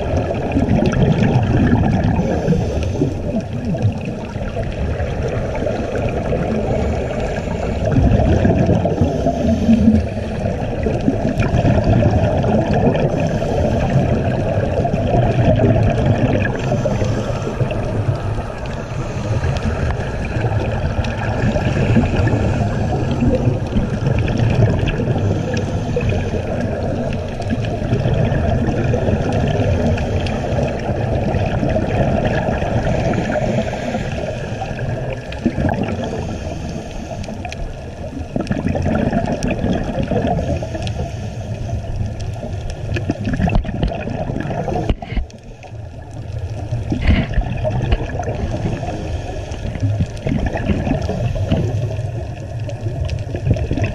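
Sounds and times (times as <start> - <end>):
muffled underwater bubbling: 0.0 - 53.9.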